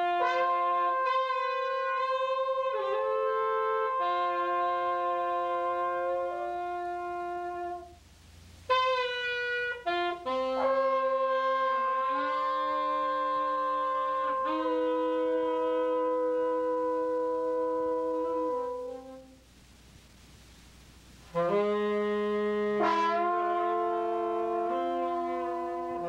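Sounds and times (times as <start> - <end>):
jazz horns holding long notes: 0.0 - 19.6, 20.9 - 26.0.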